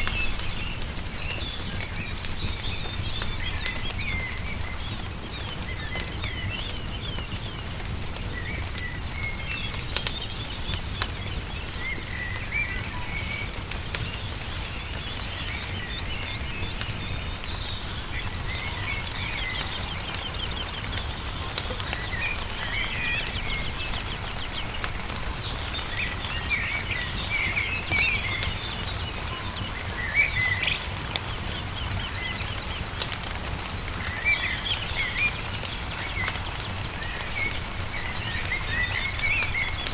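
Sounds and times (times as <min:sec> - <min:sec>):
songbirds chirping: 0:00.0 - 0:39.9
wood fire crackling: 0:00.0 - 0:39.9.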